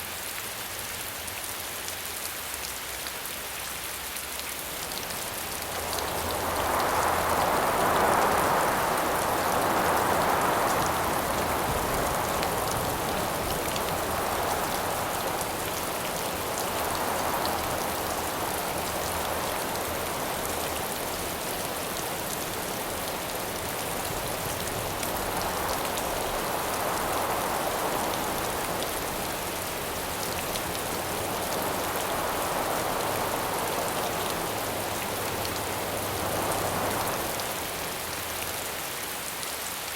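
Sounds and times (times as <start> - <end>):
steady rain: 0.0 - 39.9
wind gusts: 4.5 - 39.7.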